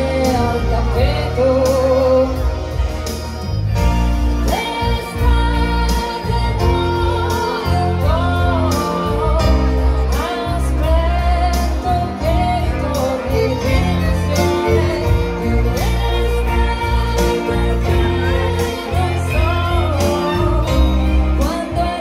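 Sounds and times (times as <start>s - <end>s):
electric guitar: 0.0s - 22.0s
low bass notes: 0.0s - 22.0s
violin melody: 0.0s - 22.0s.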